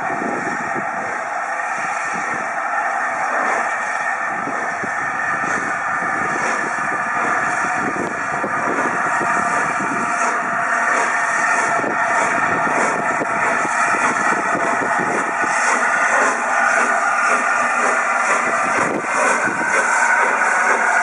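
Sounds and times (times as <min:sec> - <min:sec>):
rush of steam: 0:00.0 - 0:21.0
steam locomotive exhaust beats: 0:00.0 - 0:21.0.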